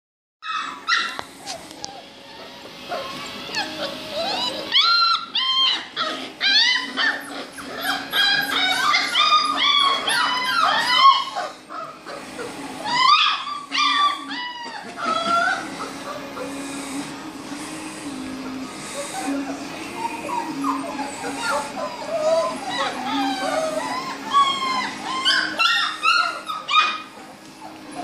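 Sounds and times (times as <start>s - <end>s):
puppies whining: 0.4s - 28.0s.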